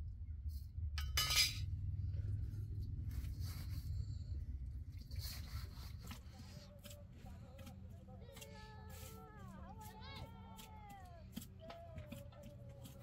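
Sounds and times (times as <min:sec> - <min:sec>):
hands kneading wet dough: 0:02.5 - 0:13.0.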